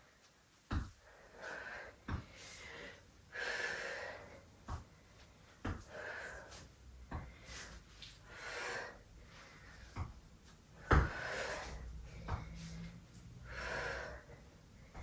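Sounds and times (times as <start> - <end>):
woman breathing: 0.8 - 15.0.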